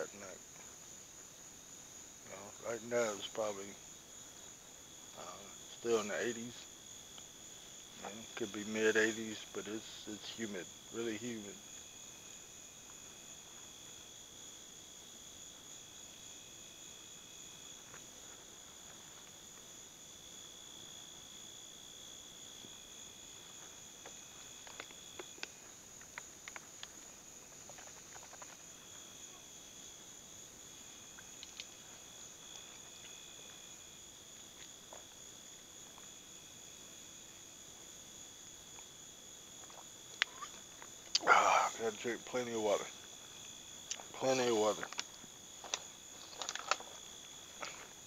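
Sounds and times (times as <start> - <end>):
night insects trilling: 0.0 - 48.0.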